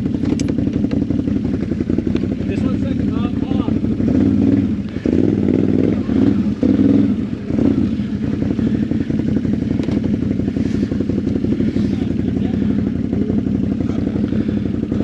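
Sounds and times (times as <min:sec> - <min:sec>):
atv engine revving and idling: 0:00.0 - 0:15.0.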